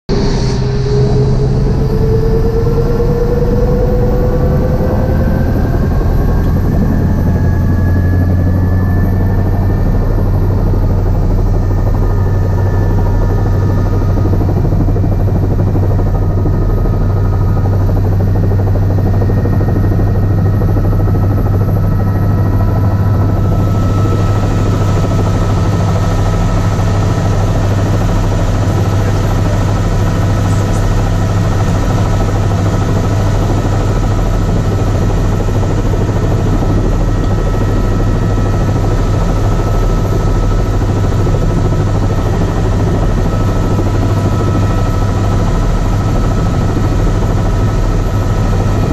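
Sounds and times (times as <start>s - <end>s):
helicopter engine and rotor: 0.1s - 48.9s.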